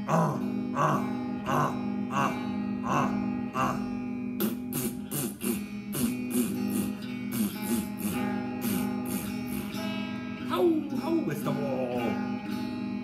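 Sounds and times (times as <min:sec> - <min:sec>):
electric guitar strumming: 0:00.0 - 0:13.0.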